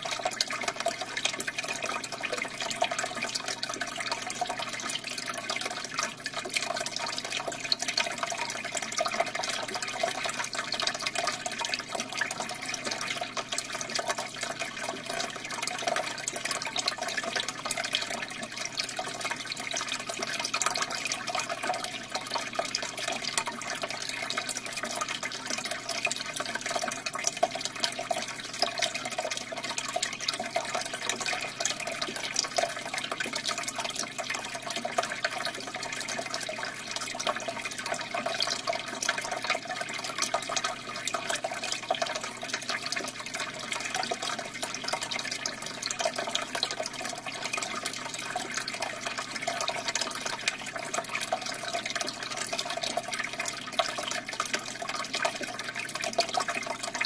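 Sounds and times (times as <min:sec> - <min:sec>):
aquarium air stone bubbling: 0:00.0 - 0:57.0.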